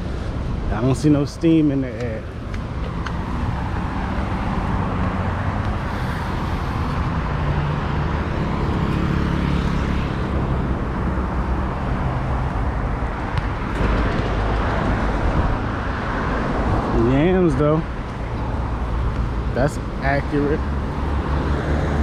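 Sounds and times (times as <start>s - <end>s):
road traffic: 0.0s - 22.0s
vehicle hum: 0.0s - 22.0s.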